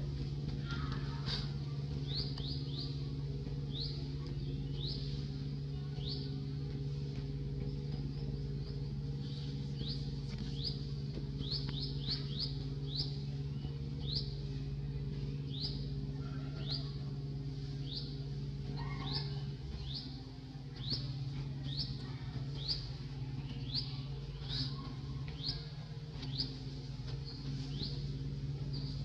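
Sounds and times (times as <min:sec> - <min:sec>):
steady low hum: 0:00.0 - 0:29.0
bird chirping: 0:00.7 - 0:03.1, 0:03.7 - 0:06.4, 0:07.6 - 0:29.0.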